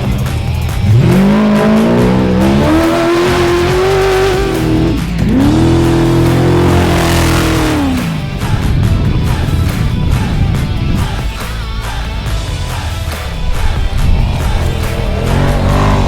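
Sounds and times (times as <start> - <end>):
truck engine revving hard: 0.0 - 12.1, 12.7 - 16.0.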